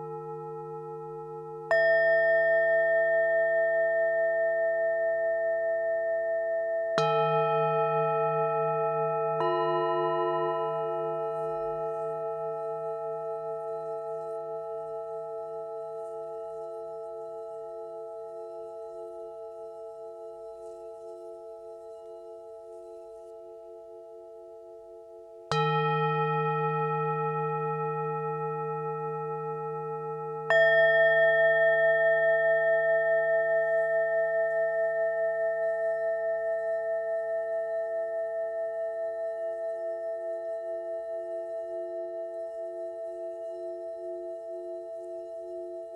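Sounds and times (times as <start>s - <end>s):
singing bowls ringing: 0.0s - 45.9s.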